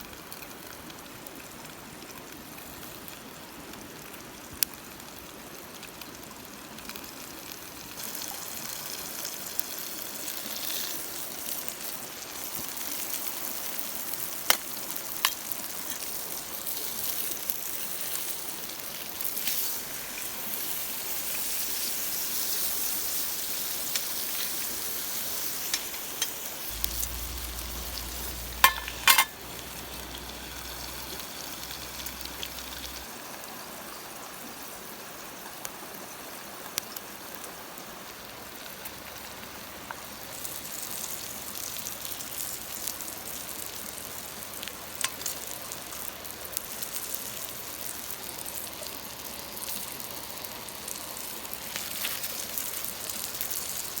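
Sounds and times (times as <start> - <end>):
food sizzling in a pan: 6.8 - 34.8, 36.0 - 54.0.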